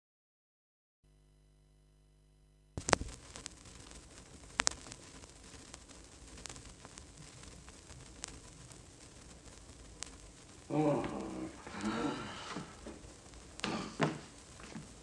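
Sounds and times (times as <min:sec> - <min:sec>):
vinyl surface hiss: 0:01.1 - 0:15.0
vinyl clicks and pops: 0:02.7 - 0:15.0.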